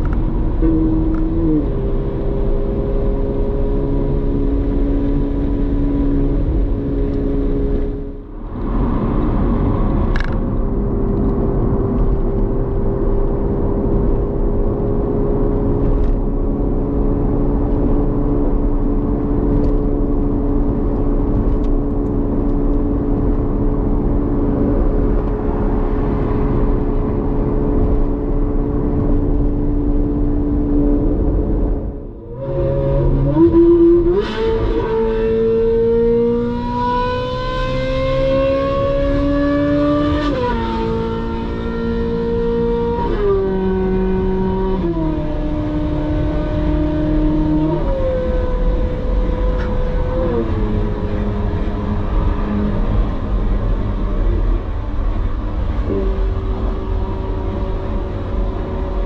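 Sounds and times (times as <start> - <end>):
car engine at steady revs: 0.0 - 59.0
road and wind noise: 0.0 - 59.0.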